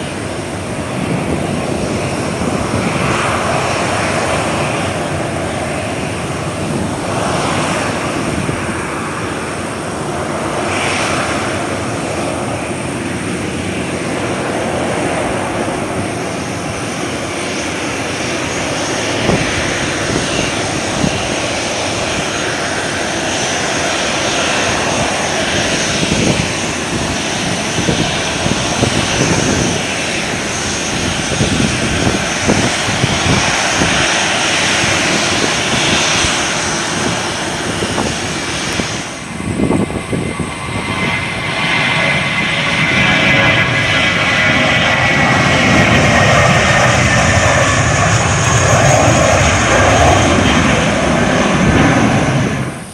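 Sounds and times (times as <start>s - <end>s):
jet engines running: 0.0s - 52.9s.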